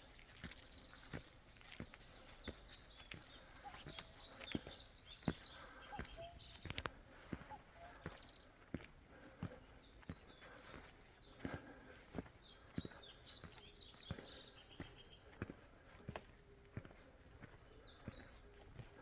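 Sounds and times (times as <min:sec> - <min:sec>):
footsteps walking: 0:00.0 - 0:13.5, 0:14.1 - 0:19.0
small birds chirping: 0:00.0 - 0:19.0.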